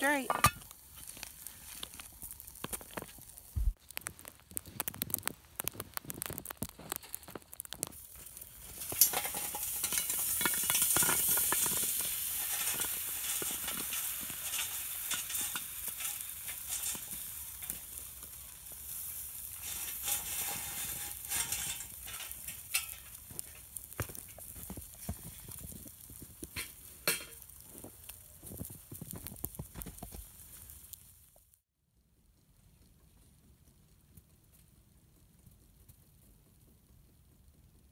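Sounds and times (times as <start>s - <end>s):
charcoal briquettes clattering: 0.0s - 31.0s
coals clinking: 0.0s - 31.1s
hot coals sizzling hiss: 0.0s - 37.9s.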